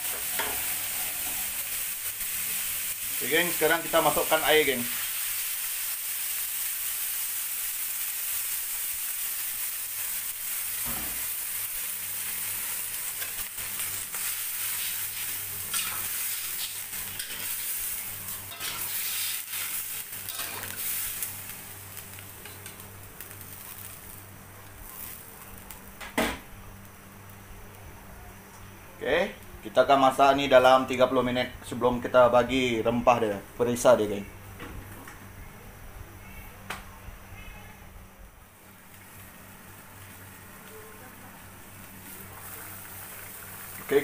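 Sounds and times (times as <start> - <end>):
wok sizzling and hissing: 0.0 - 34.2, 38.2 - 44.0.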